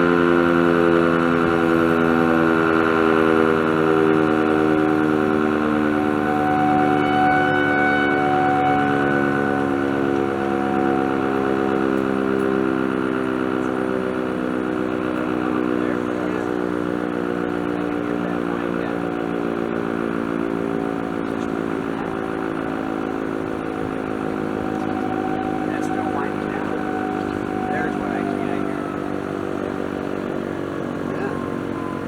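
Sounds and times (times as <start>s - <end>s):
outdoor warning siren: 0.0s - 32.0s.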